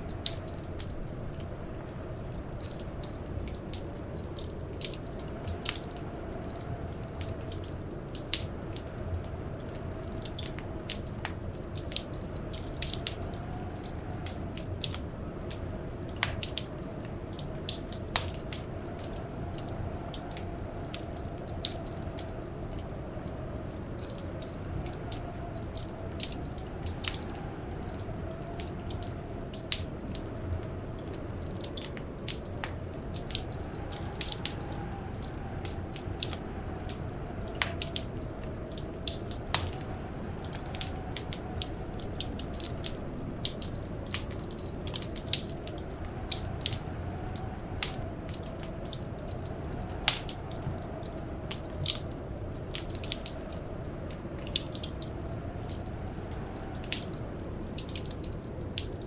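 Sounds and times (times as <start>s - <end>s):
blizzard wind howling: 0.0s - 59.0s
wood fire crackling and popping: 0.0s - 59.0s.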